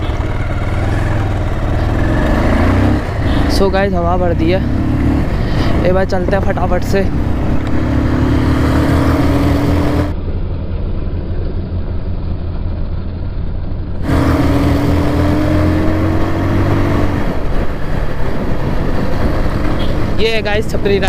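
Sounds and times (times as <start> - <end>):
motorcycle engine accelerating: 0.0 - 13.2, 13.8 - 21.0.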